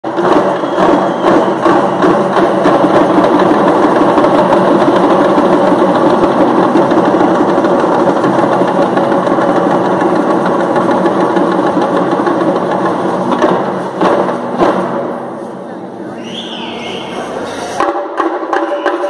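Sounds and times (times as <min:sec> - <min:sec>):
frame drums rolling: 0:00.0 - 0:15.4.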